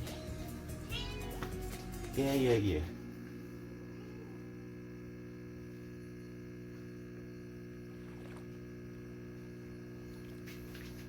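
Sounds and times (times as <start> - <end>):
espresso machine pump buzzing: 0.0 - 11.0.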